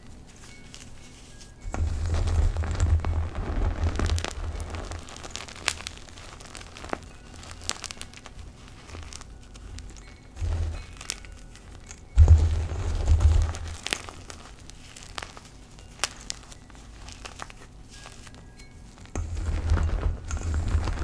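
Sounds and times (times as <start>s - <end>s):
small crackles: 0.0s - 21.0s
hands crushing chalk: 1.6s - 18.4s, 19.0s - 21.0s.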